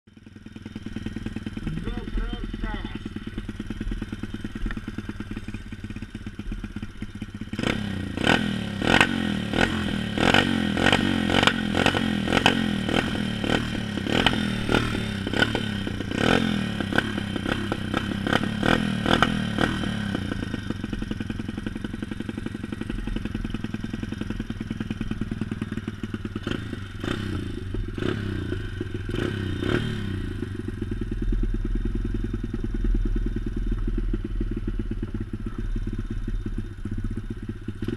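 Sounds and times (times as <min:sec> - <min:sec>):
motorcycle engine idling and revving: 0:00.1 - 0:37.9.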